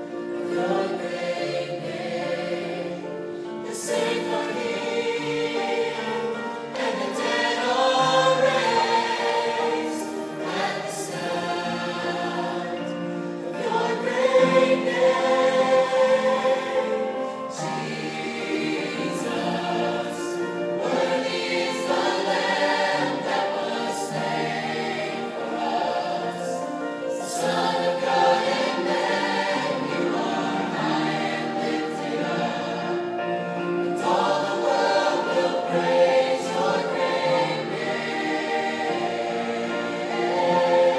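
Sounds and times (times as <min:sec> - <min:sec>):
choir singing worship song: 0:00.0 - 0:40.9.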